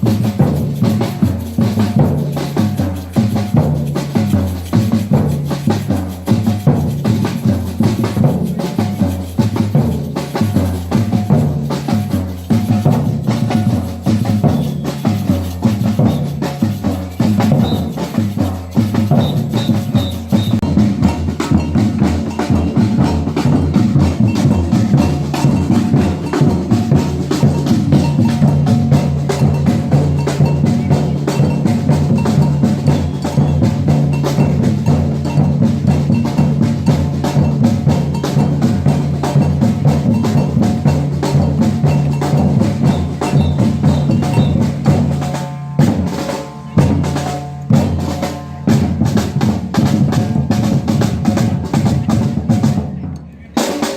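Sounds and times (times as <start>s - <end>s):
sharp higher drum strokes: 0.0s - 52.9s
deep bass drums: 0.0s - 53.1s.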